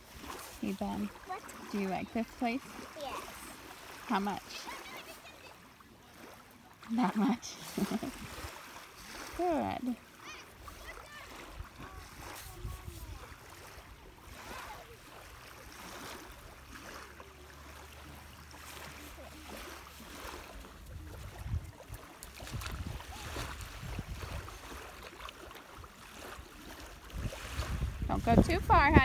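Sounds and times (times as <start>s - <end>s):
small waves lapping on beach: 0.0s - 29.0s.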